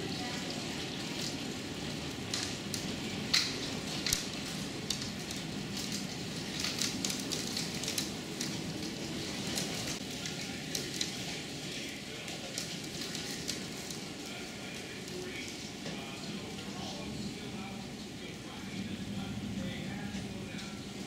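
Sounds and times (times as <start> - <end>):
hailstones ticking on window: 0.0 - 21.0
heavy rain hissing: 0.0 - 21.0.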